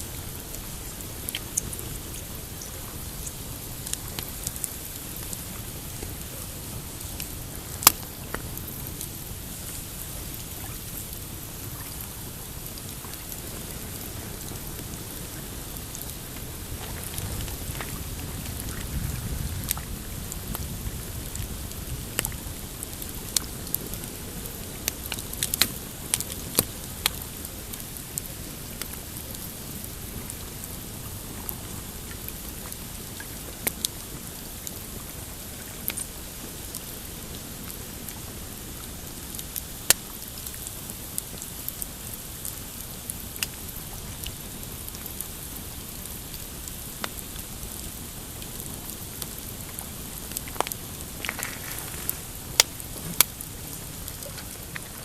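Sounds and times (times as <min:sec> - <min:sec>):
campfire crackling and popping: 0:00.0 - 0:55.0
waves lapping on rocky shore: 0:00.0 - 0:55.0.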